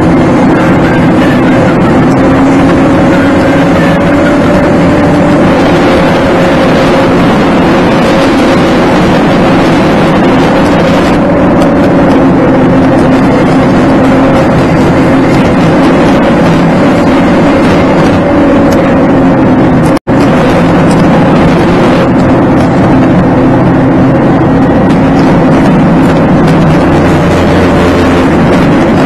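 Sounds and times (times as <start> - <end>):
car engine drone inside cabin: 0.0 - 29.0.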